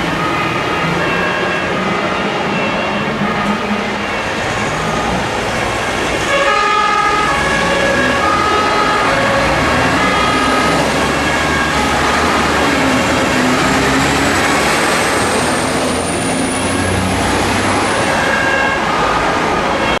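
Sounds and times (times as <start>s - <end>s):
fire engine and road noise: 0.0s - 20.0s
two-tone siren: 0.0s - 20.0s.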